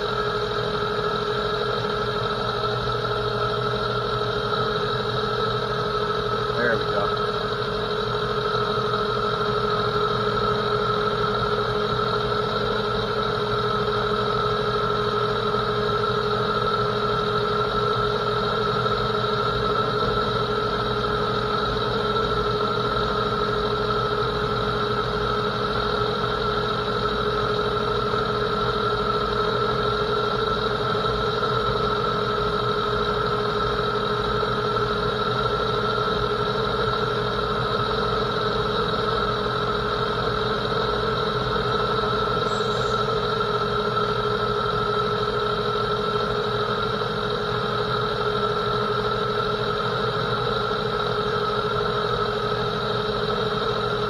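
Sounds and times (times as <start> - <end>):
metal lathe hum and whine: 0.0 - 54.0.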